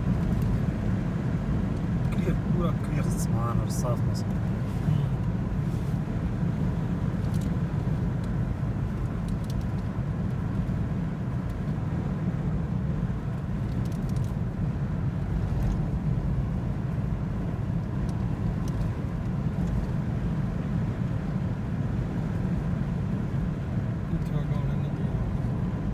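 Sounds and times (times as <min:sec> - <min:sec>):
vehicle engine low rumble: 0:00.0 - 0:25.9.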